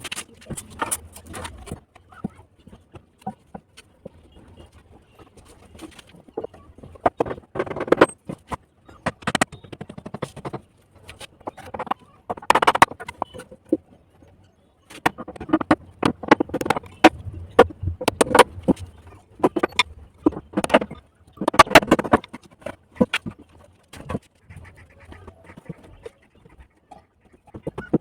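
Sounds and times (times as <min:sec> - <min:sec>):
construction knocks and clatter: 0:00.0 - 0:13.9, 0:14.9 - 0:24.8.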